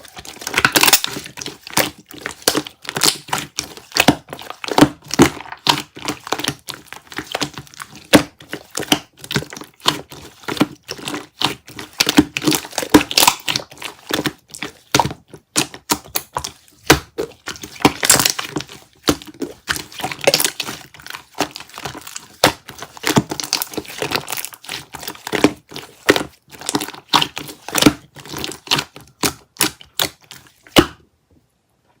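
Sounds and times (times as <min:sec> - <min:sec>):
slime crackling and popping: 0:00.0 - 0:31.0.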